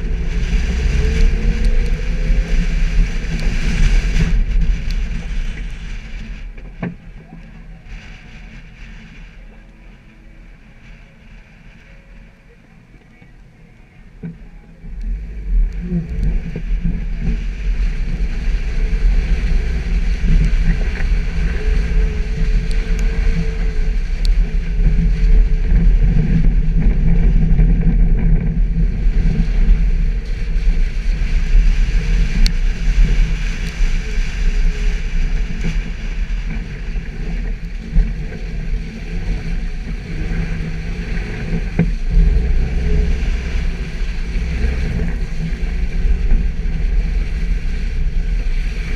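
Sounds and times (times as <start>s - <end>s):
car engine low rumble: 0.0s - 48.9s.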